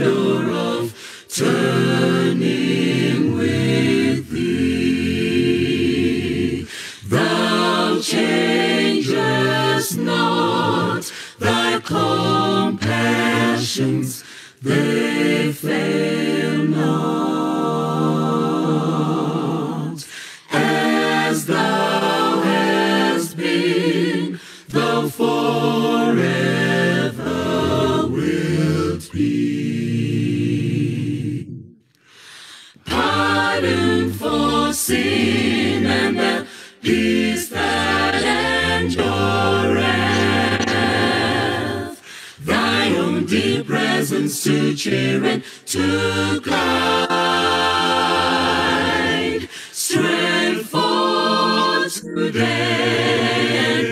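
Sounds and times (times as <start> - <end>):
vocal group singing in harmony: 0.0 - 53.9.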